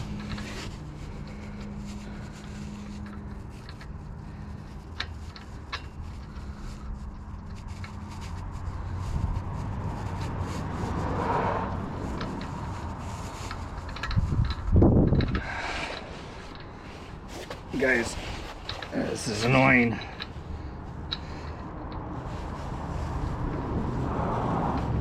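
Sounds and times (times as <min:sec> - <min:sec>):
metal clicks and rubbing: 0:00.0 - 0:11.0, 0:11.8 - 0:22.1.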